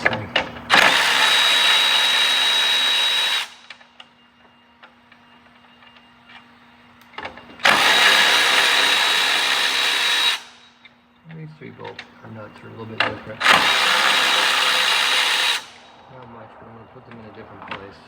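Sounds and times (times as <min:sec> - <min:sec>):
cordless power driver whining: 0:00.0 - 0:11.0, 0:11.8 - 0:16.1.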